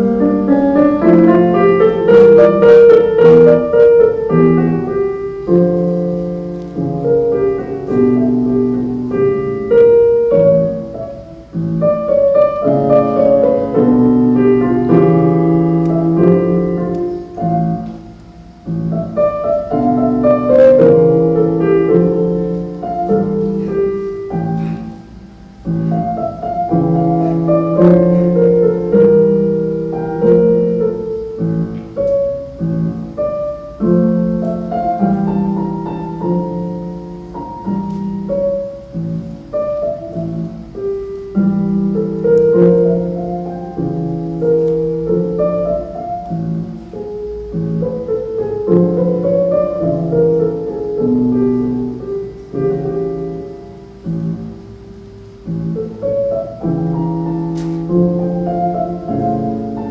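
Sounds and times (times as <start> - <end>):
piano music: 0.0 - 59.9.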